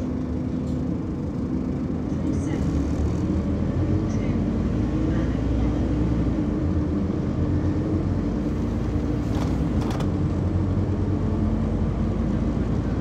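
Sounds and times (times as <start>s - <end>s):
bus diesel engine hum: 0.0s - 13.0s
road noise: 0.0s - 13.0s.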